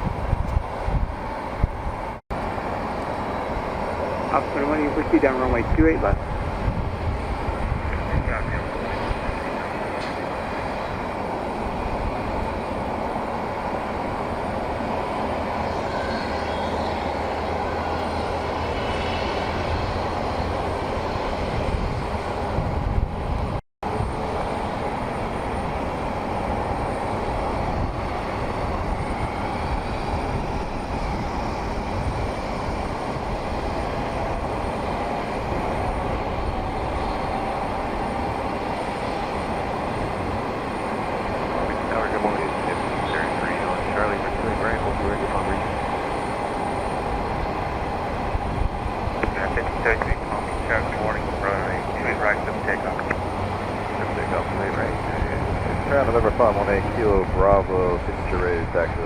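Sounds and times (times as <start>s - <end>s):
aircraft engines rumbling: 0.0s - 59.0s.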